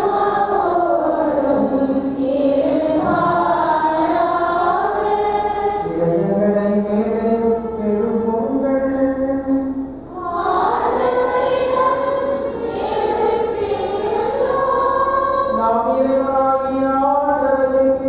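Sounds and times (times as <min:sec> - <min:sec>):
choir singing a hymn: 0:00.0 - 0:08.7, 0:10.0 - 0:17.8.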